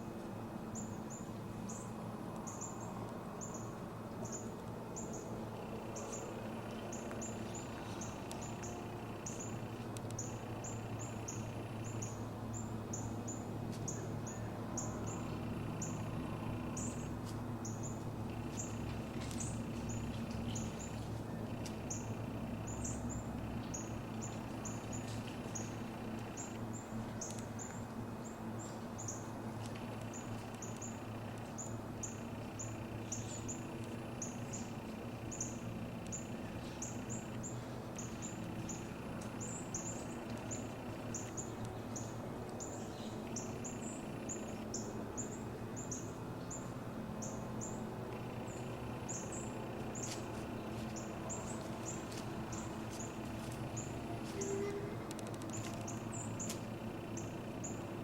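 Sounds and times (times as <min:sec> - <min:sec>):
low background noise: 0:00.0 - 0:58.0
small birds chirping: 0:00.8 - 0:58.0.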